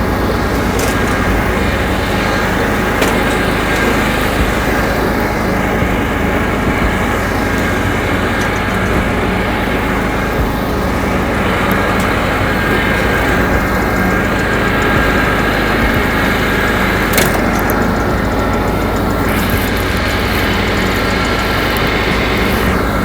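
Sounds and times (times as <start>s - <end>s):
riding lawn mower engine running: 0.0s - 23.0s.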